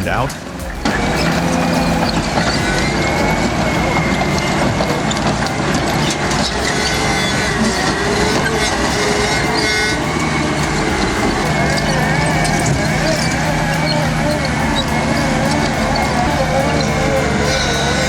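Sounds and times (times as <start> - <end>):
bulldozer engine running: 0.0 - 18.0
high squeal: 0.0 - 18.0.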